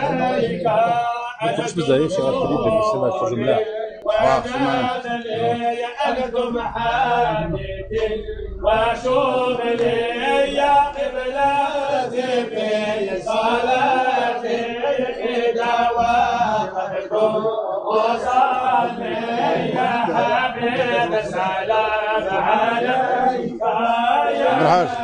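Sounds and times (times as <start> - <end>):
men chanting together: 0.0 - 25.0.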